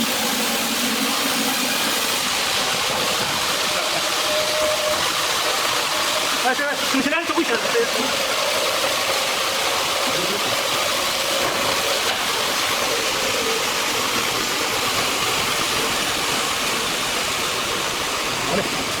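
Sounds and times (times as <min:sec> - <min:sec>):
sawmill machinery rushing: 0:00.0 - 0:19.0.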